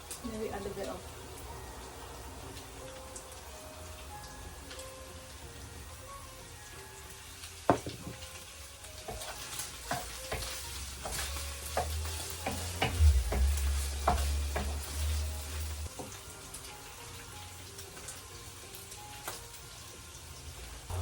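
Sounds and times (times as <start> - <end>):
light sizzle: 0.0 - 21.0.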